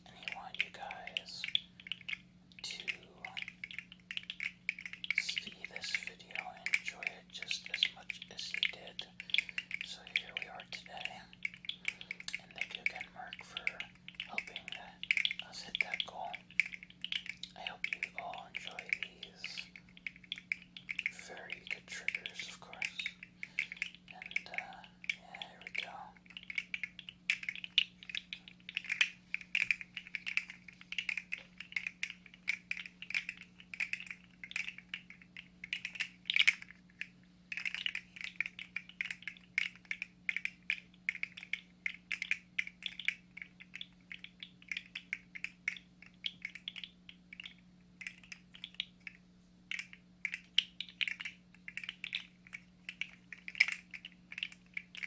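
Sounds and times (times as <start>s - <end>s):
plastic toy clicking and rattling: 0.0s - 55.0s
steady low hum: 0.0s - 55.0s.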